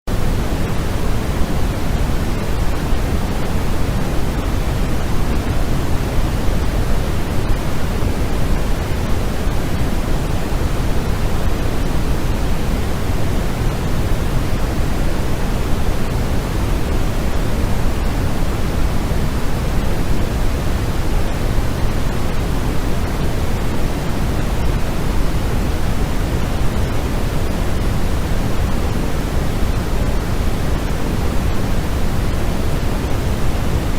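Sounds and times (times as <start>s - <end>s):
synthetic white noise: 0.1s - 33.9s.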